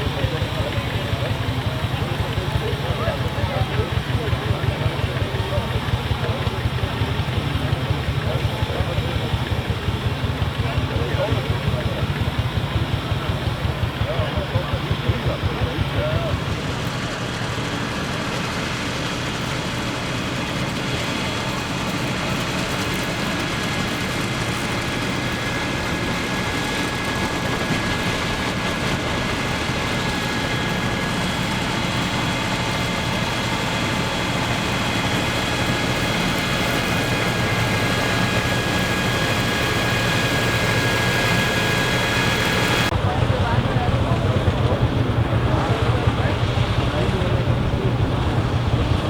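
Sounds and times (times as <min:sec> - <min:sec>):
tractor and combine running: 0:00.0 - 0:49.0.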